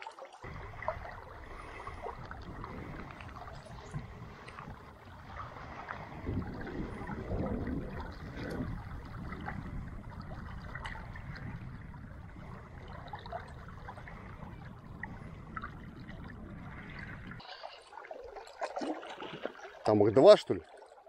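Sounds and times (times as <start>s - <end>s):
river water flowing and trickling: 0.0s - 21.0s
steady low rumble: 0.5s - 17.4s.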